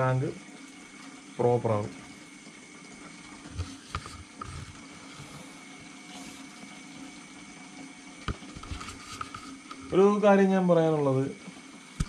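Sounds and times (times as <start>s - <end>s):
water trickling and bubbling: 0.0s - 10.1s.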